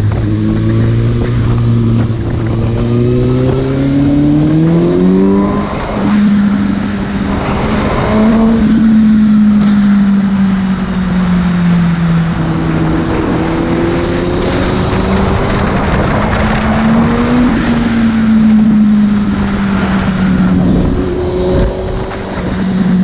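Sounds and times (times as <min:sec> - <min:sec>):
motorcycle engine running: 0:00.0 - 0:23.0
wind rush: 0:00.0 - 0:23.0.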